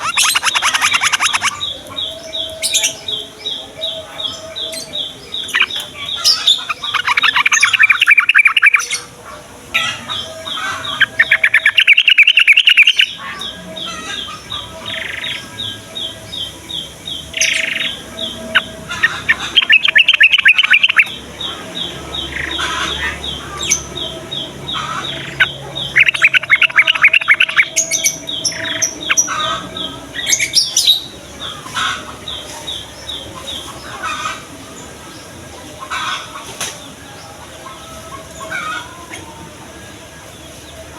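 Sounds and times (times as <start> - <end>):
birds chattering trills: 0.0 - 40.9
birds chirping: 0.0 - 40.9.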